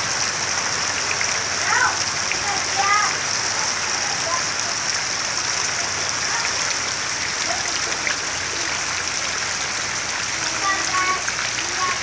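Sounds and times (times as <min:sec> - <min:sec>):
heavy rain on standing water: 0:00.0 - 0:12.0.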